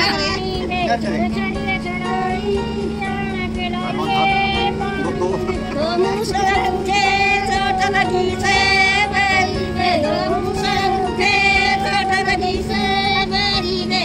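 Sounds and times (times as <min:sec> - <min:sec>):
steady low hum: 0:00.0 - 0:14.0
woman singing: 0:00.0 - 0:14.0.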